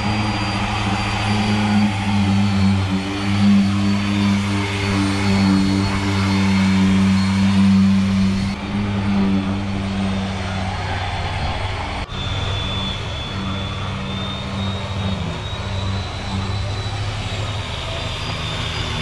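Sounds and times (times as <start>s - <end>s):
orbital sanders humming: 0.0s - 19.0s.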